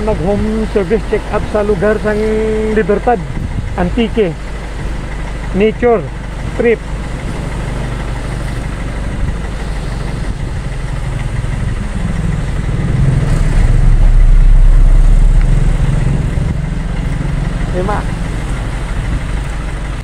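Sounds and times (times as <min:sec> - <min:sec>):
wind buffeting microphone: 0:03.0 - 0:05.5, 0:06.1 - 0:20.0.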